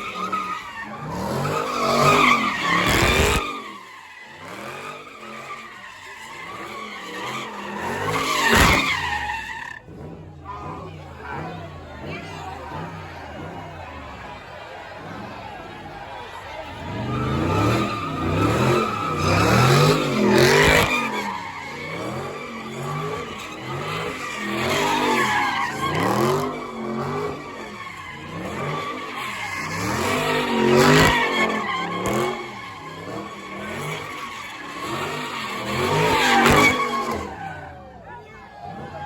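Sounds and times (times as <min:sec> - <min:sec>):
car engine revving: 0:00.0 - 0:39.0
tyres squealing and skidding: 0:00.0 - 0:39.0.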